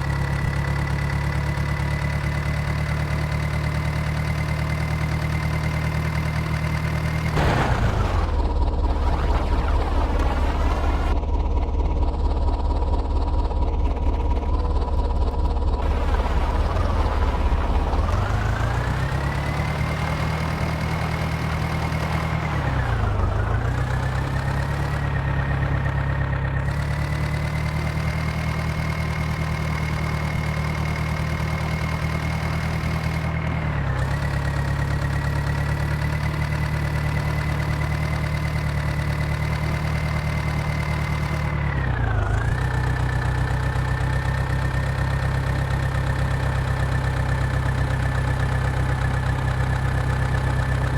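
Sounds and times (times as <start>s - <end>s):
tractor engine at high revs: 0.0s - 50.9s.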